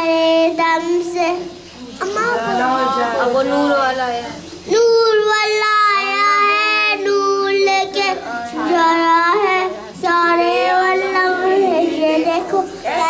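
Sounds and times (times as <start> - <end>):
girl singing a devotional hymn: 0.0 - 3.8, 4.7 - 13.0.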